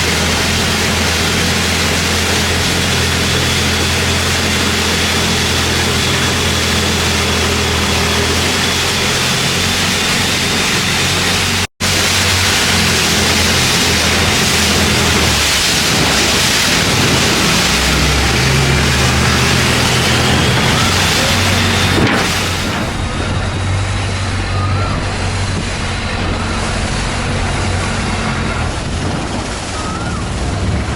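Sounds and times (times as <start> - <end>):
boat engine running: 0.0 - 30.9
water noise: 0.0 - 30.9
wind noise: 0.0 - 30.9.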